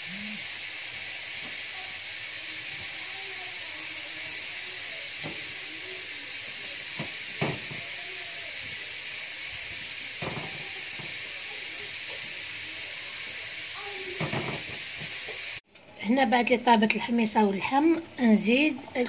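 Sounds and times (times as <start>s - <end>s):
steam hissing: 0.0s - 15.6s.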